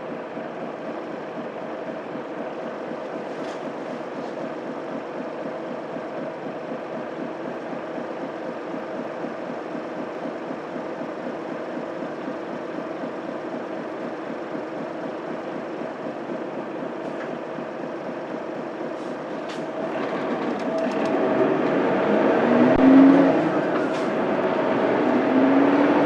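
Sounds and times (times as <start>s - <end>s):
bus diesel engine droning: 0.0s - 26.0s.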